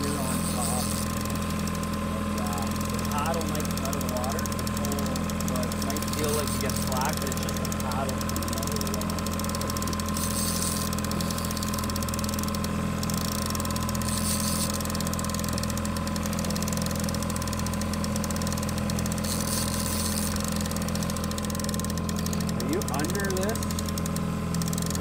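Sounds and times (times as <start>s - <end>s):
outboard boat motor idling: 0.0s - 25.0s.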